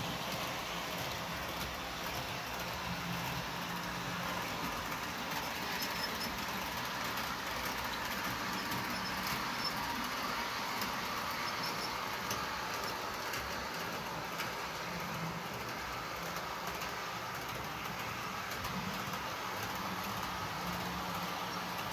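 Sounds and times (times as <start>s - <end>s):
model train motor whirring: 0.0s - 21.9s.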